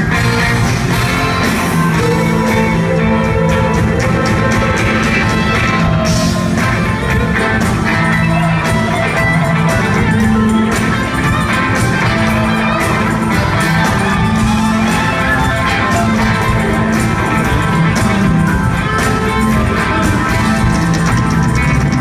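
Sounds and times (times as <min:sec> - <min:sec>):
drum beat: 0:00.0 - 0:22.0
electric guitars: 0:00.0 - 0:22.0.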